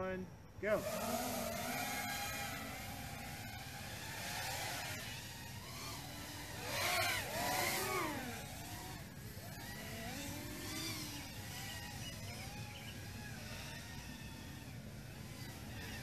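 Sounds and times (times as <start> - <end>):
quadcopter motors whining: 0.6 - 16.0.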